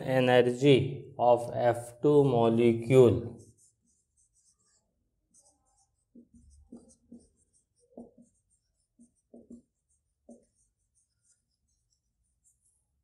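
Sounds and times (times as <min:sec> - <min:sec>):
marker pen scratching on whiteboard: 0:02.5 - 0:13.0.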